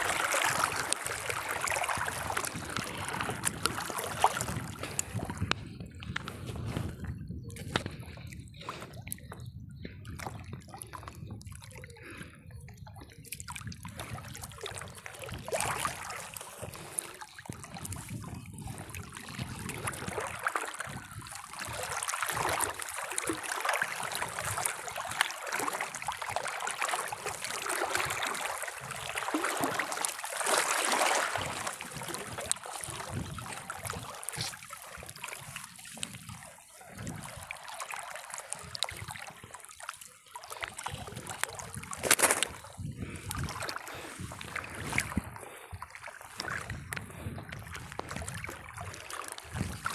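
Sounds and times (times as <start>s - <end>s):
small splashes: 0.0s - 5.2s, 13.3s - 49.9s.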